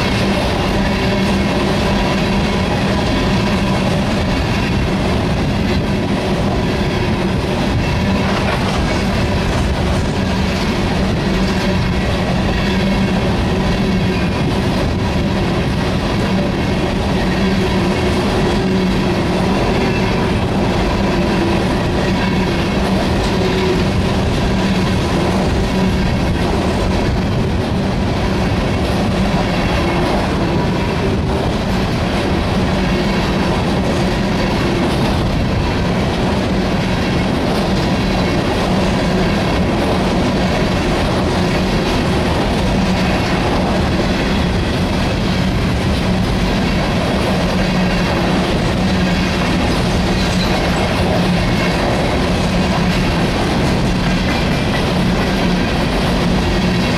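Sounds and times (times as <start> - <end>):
freight cars rolling on rails: 0.0 - 56.9
wheels clacking over rail joints: 0.0 - 56.9.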